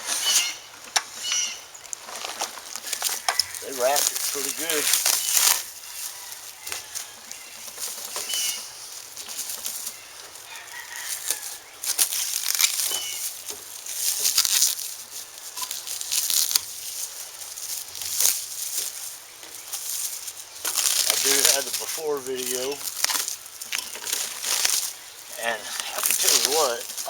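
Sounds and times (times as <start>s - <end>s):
packing wrap rustling: 1.9s - 27.0s.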